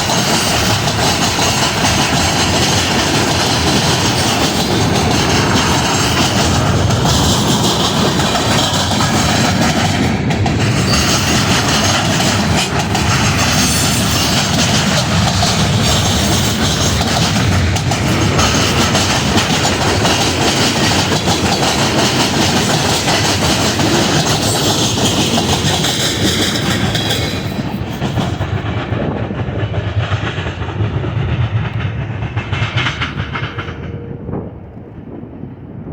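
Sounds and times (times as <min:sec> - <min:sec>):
train wheels clacking over rail joints: 0:00.0 - 0:34.0.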